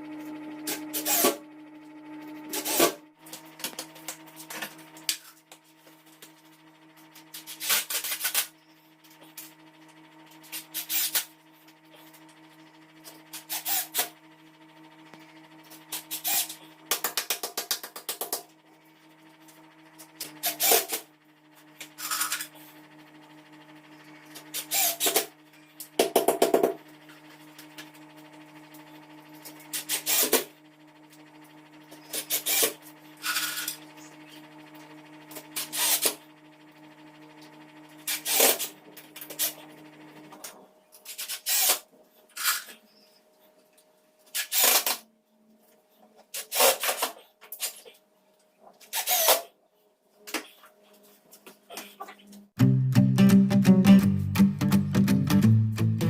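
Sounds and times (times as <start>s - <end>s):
steady low hum: 0.0s - 46.4s.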